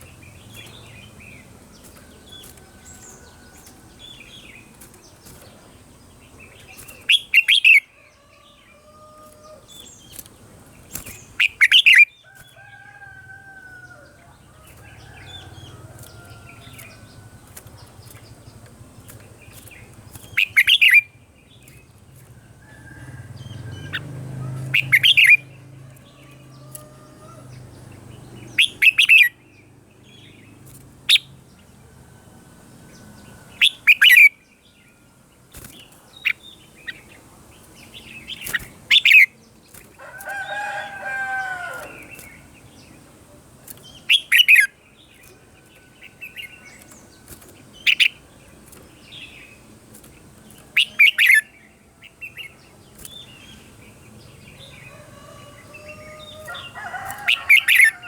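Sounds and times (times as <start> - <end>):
bulbul singing: 0.0 - 31.9, 32.8 - 58.0.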